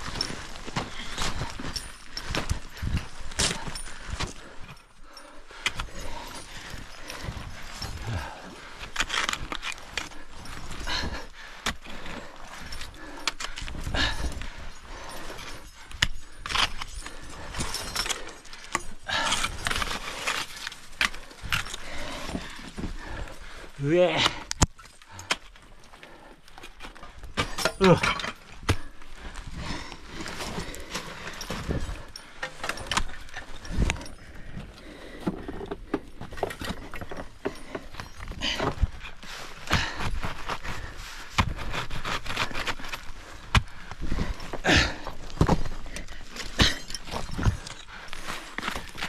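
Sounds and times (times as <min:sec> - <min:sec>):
metal climbing gear clinking: 0:00.0 - 0:49.0.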